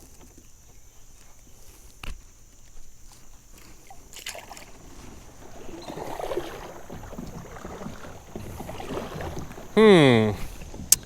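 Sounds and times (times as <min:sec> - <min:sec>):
water sloshing against hull: 0:00.0 - 0:11.0.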